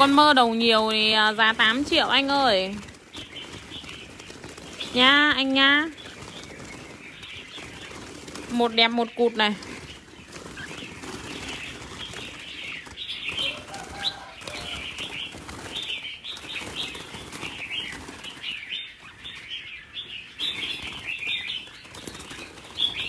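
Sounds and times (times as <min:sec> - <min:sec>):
birds chirping: 0:00.0 - 0:23.0
wings flapping: 0:00.0 - 0:23.0.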